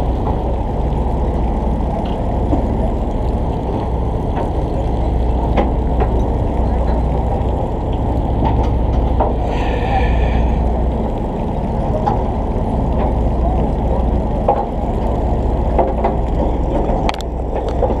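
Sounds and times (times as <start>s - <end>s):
muffled boat rumble: 0.0s - 18.0s.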